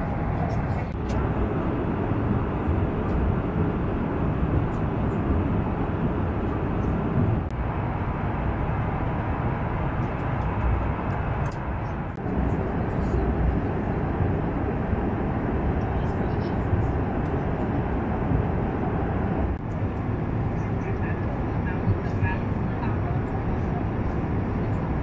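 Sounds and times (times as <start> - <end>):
airliner cabin rumbling hiss: 0.0 - 25.0.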